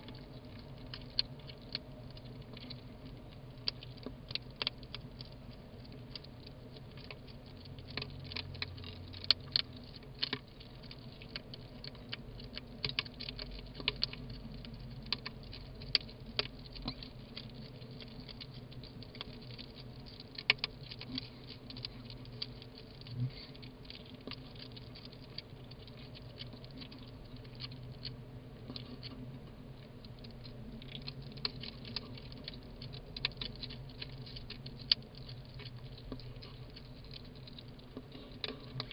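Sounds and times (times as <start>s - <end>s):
hedgehogs chewing and crunching food: 0.0s - 38.9s.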